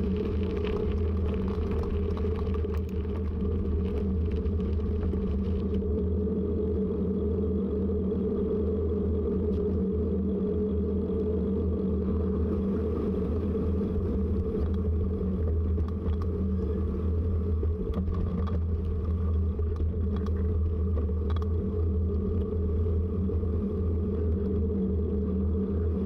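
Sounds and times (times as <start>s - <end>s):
bicycle road and wind noise: 0.0s - 26.0s.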